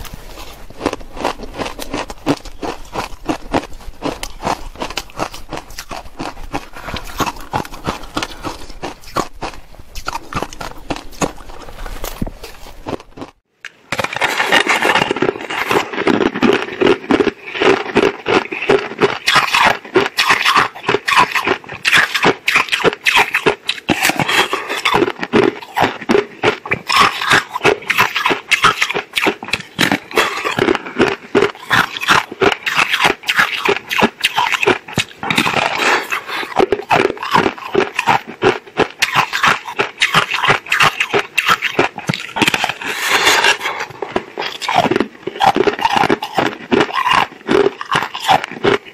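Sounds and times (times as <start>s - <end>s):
ice crunching while chewed: 0.0s - 48.9s.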